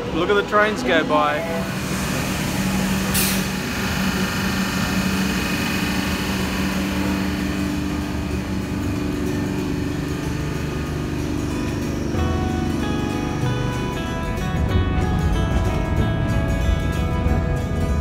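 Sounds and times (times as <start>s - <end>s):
electric train humming: 0.0s - 18.0s
level electronic tones: 1.0s - 16.3s.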